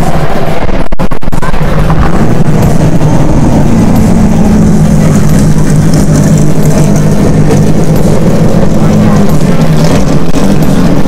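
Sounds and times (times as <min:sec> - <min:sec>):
car engine passing slowly: 0:00.0 - 0:11.0.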